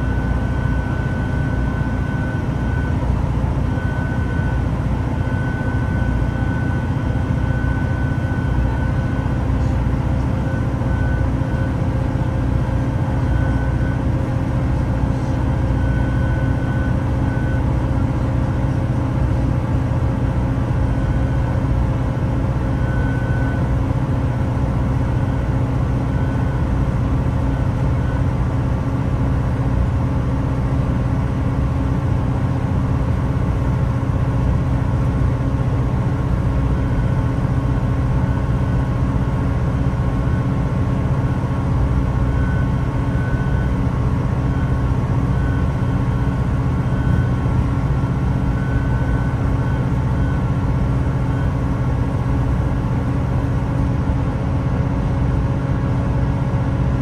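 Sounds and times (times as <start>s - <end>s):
train diesel engines humming: 0.0s - 57.0s.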